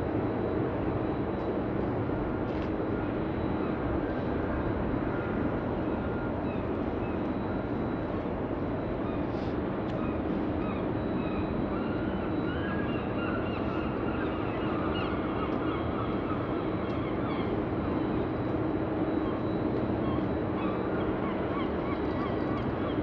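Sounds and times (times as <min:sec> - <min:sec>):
steady background rumble: 0:00.0 - 0:23.0.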